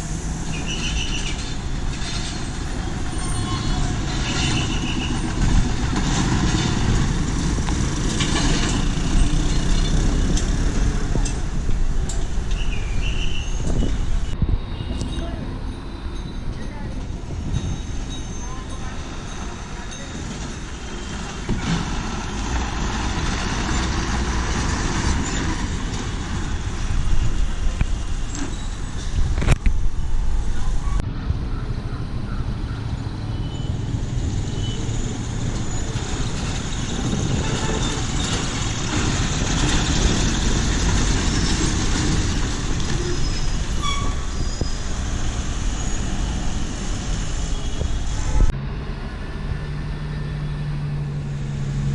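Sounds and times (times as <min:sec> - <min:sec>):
diesel bus engines running: 0:00.0 - 0:51.9
roadway din: 0:00.0 - 0:51.9.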